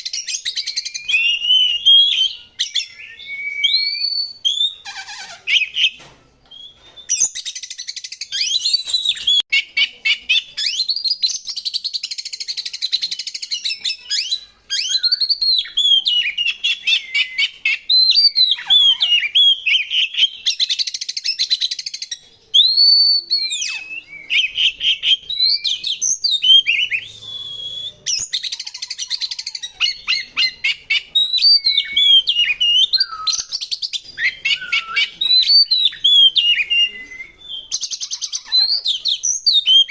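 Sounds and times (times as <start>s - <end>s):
bird song with slurred whistles: 0.0s - 39.9s.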